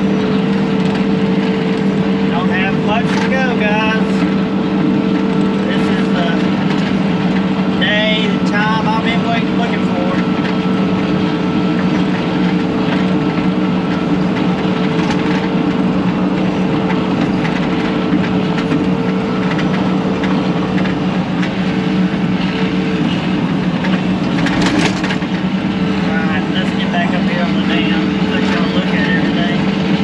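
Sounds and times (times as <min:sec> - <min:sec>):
faint clatter of tracks: 0:00.0 - 0:30.0
loader diesel engine whining: 0:00.0 - 0:30.0.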